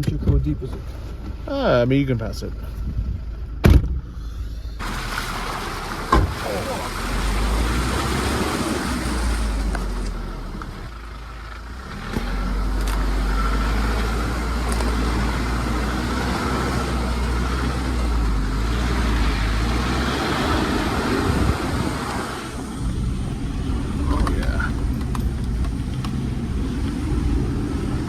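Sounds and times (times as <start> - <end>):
car engine under load: 0.0 - 28.0
tyre and road noise: 0.0 - 28.0.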